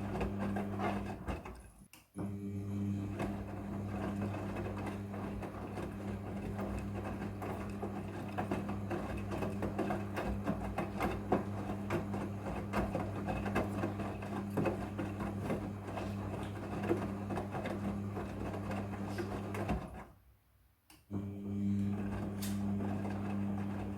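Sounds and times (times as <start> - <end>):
washing machine motor hum: 0.0 - 20.2, 21.1 - 23.9.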